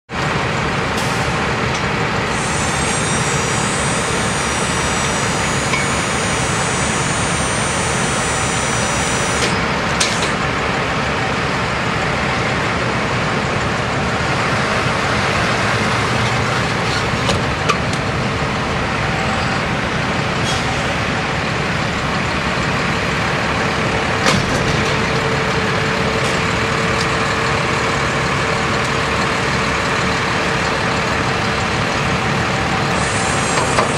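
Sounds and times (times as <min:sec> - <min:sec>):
trucks idling: 0:00.1 - 0:33.9.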